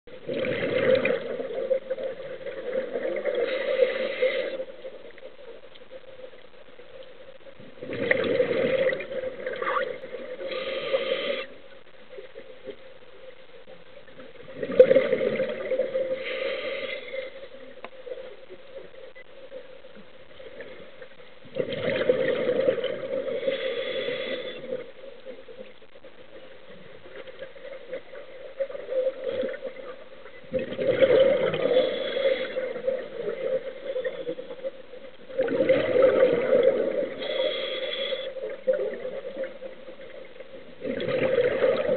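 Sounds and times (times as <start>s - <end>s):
low steady hiss: 0.0s - 41.9s
underwater air bubbling: 0.1s - 41.9s.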